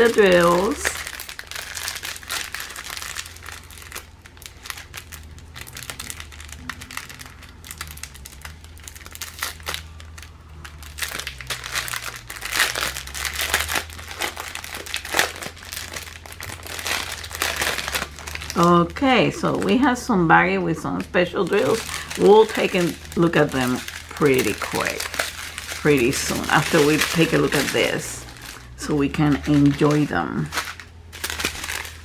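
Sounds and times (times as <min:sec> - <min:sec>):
plastic packaging crinkling: 0:00.0 - 0:32.0.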